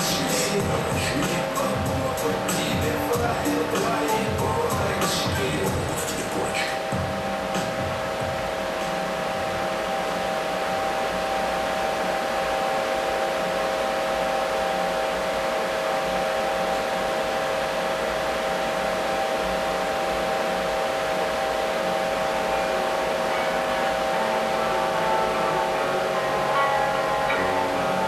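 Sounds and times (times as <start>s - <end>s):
blower rushing air and humming: 0.0s - 28.0s.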